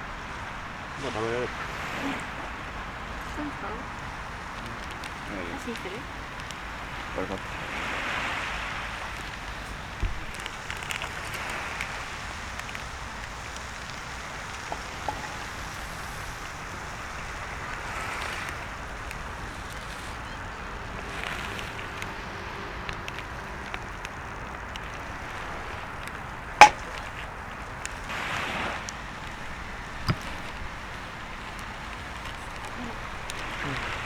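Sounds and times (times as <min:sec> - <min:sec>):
bonfire hissing and crackling: 0:00.0 - 0:34.0.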